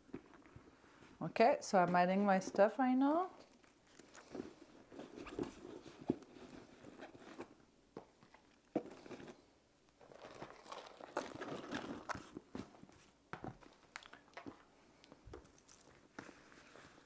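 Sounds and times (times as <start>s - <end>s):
rustling and crinkling of belongings: 0.0s - 17.0s.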